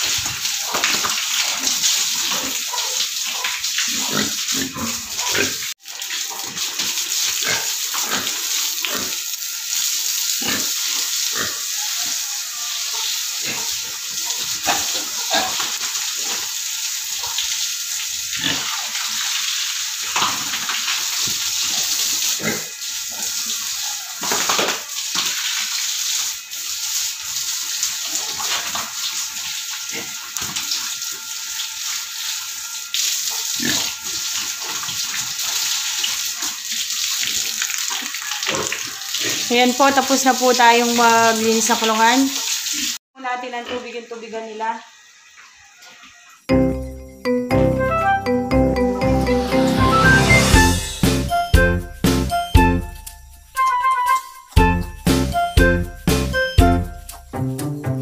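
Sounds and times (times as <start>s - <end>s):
hose spraying water on concrete: 0.0s - 46.5s.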